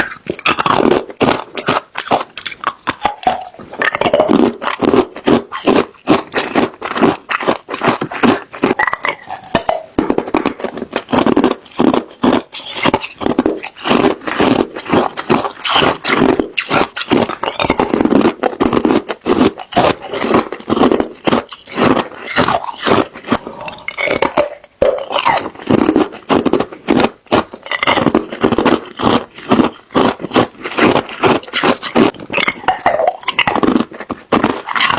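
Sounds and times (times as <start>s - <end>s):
ice being chewed: 0.0s - 34.9s.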